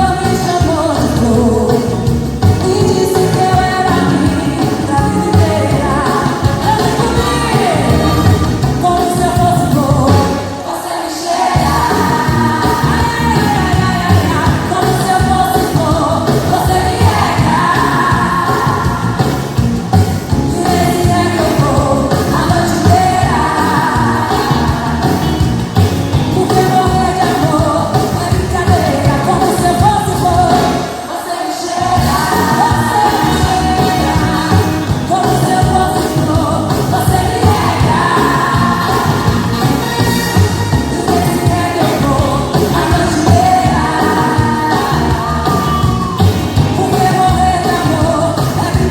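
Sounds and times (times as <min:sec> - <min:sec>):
upbeat pop song with vocals: 0:00.0 - 0:48.9.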